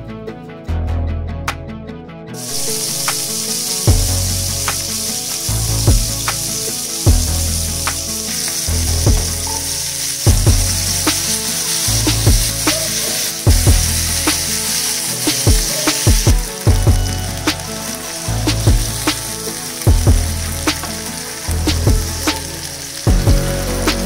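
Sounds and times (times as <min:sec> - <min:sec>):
food frying in hot oil: 0:02.4 - 0:24.0
background music with drum beat: 0:02.5 - 0:24.0.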